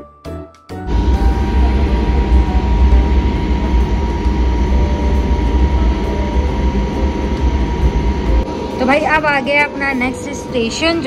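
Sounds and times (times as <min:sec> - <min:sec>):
faint steady whine: 0:00.9 - 0:10.2.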